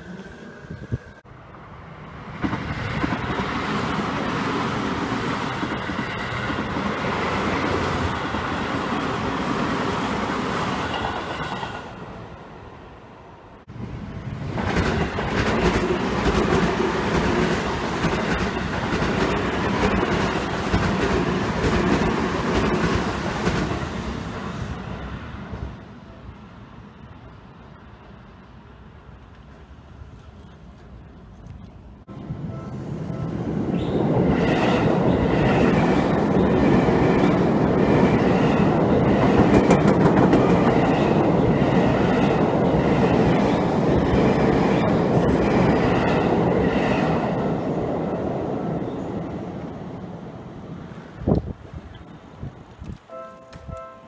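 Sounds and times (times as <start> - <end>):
train wheels rumbling on rail: 0.0 - 12.2, 13.6 - 53.9.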